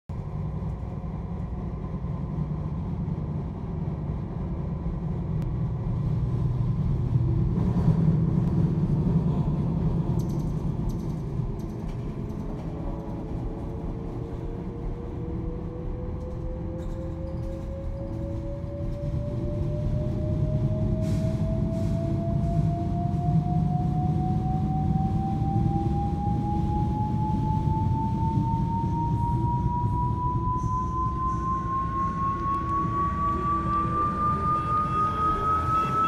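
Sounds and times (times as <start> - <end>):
train rumbling: 0.1 - 36.0
faint rising whine: 5.5 - 36.0.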